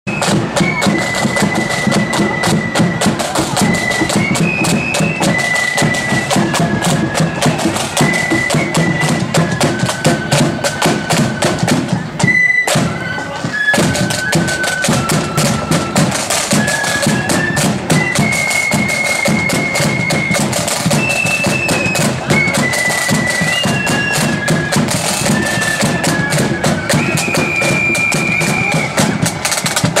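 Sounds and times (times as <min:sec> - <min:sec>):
flute melody: 0:00.1 - 0:30.0
rapid snare drumming: 0:00.1 - 0:30.0.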